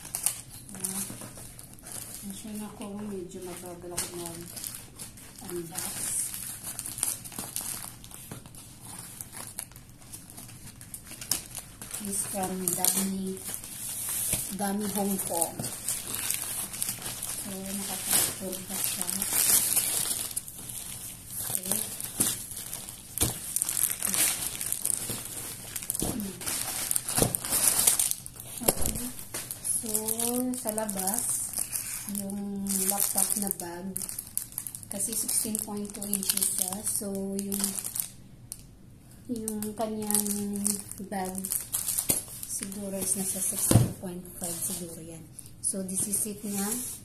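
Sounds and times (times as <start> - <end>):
plastic mailer crinkling and tearing: 0.0 - 38.7, 39.3 - 45.2, 45.9 - 47.0.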